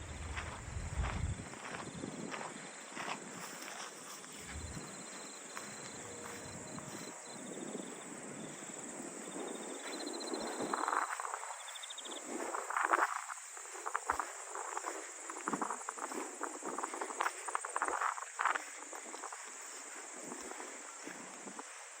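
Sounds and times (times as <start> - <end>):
footsteps on a path: 0.0 - 22.0
insects chirping in trills: 0.0 - 22.0.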